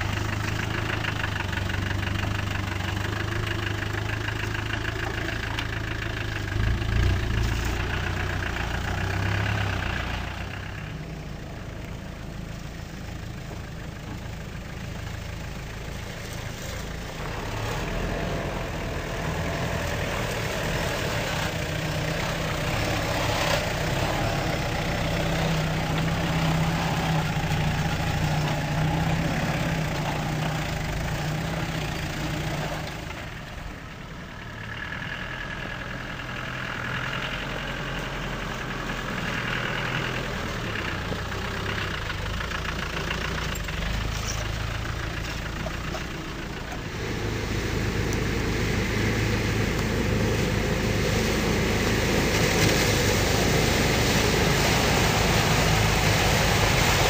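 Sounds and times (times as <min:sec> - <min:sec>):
off-road engines at low revs: 0:00.0 - 0:57.0.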